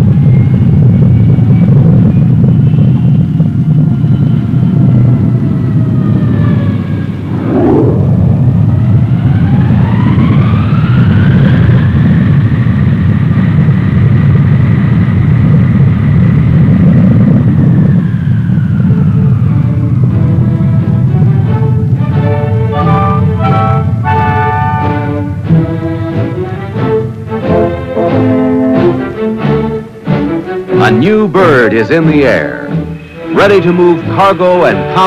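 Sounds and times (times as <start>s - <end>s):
jet engines rumbling and whining: 0.0s - 35.0s.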